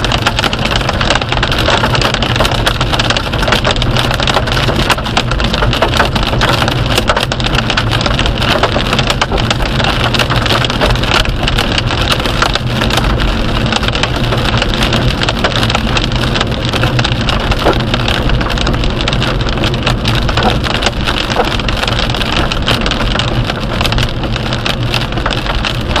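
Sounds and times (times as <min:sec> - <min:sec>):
hail and rain falling hard: 0:00.0 - 0:26.0.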